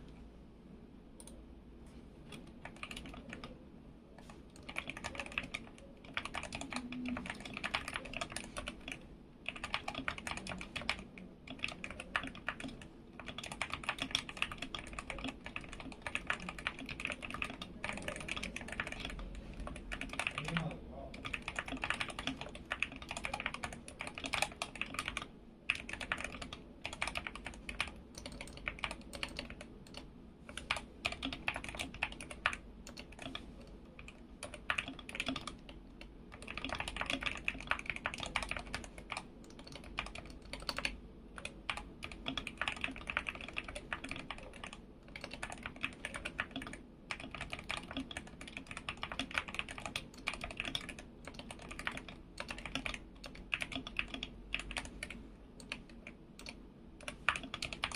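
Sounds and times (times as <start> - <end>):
mechanical keyboard typing: 2.3 - 3.6, 4.2 - 57.9.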